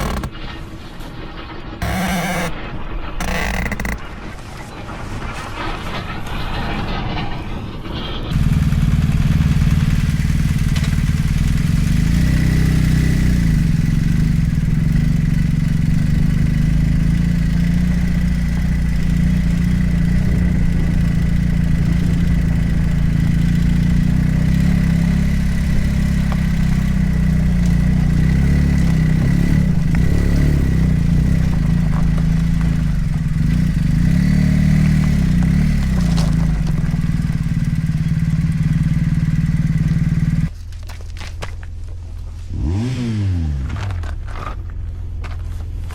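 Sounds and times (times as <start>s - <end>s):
motorcycle engine running: 0.0s - 0.8s, 1.8s - 2.6s, 3.2s - 4.4s, 8.3s - 45.9s.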